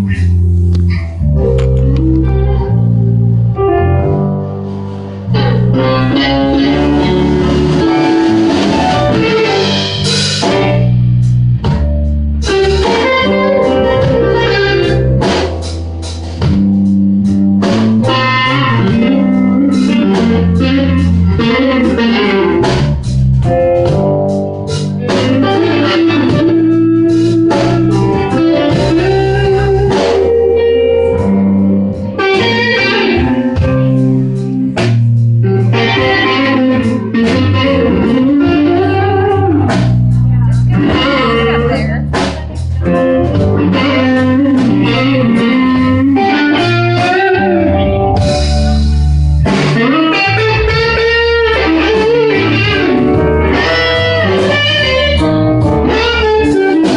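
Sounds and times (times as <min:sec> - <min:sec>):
drums: 0:00.0 - 0:02.6, 0:03.3 - 0:56.9
bass guitar: 0:00.0 - 0:56.9
electric guitar lead: 0:00.0 - 0:56.9.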